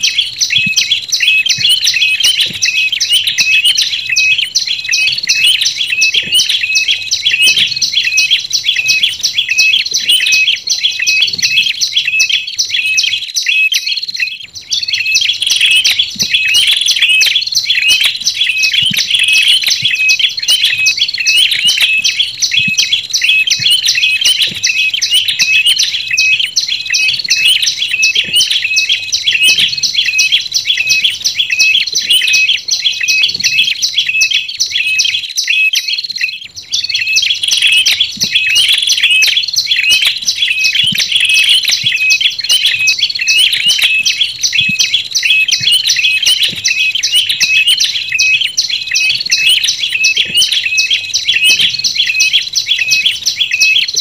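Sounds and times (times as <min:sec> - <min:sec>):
bird rapid sharp chirps: 0:00.0 - 0:54.0.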